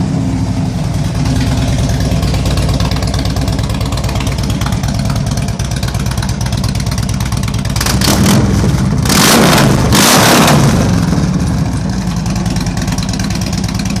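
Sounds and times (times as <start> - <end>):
motorcycle engine idling: 0.0 - 9.1, 10.6 - 14.0
motorcycle throttle blips: 0.0 - 14.0.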